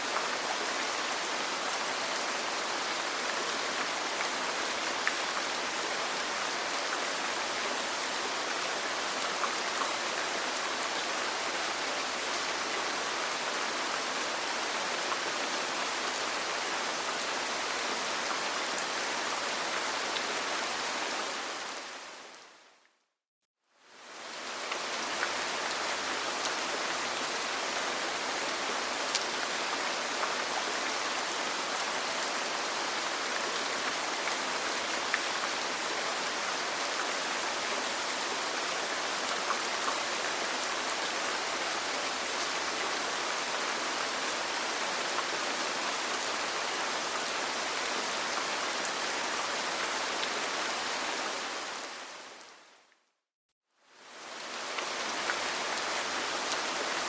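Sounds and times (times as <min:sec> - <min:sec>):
rain on a roof: 0:00.0 - 0:22.8, 0:23.8 - 0:52.9, 0:53.8 - 0:57.0.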